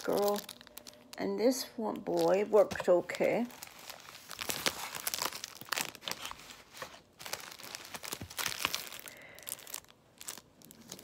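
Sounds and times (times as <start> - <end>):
paper and plastic crinkling: 0.0 - 1.3, 2.0 - 11.0.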